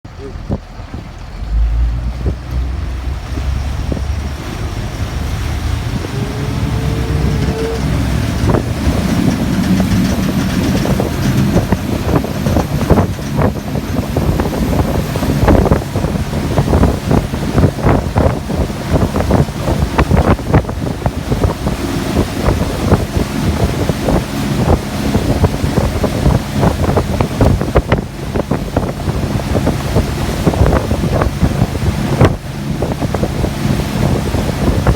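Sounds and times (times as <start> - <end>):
marine diesel engine accelerating: 0.1 - 34.9.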